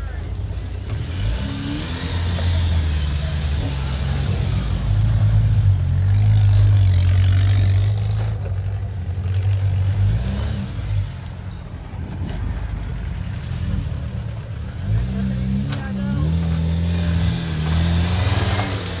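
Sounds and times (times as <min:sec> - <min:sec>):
vehicle engine under load: 0:00.0 - 0:19.0.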